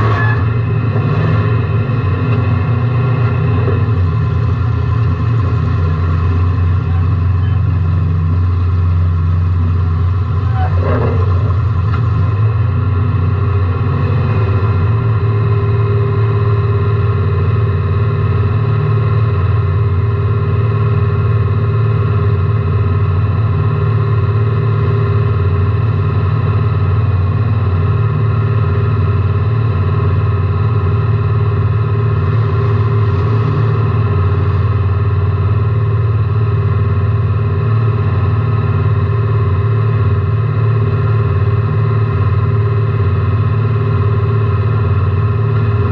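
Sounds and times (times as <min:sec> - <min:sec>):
race car engine running: 0:00.0 - 0:45.9.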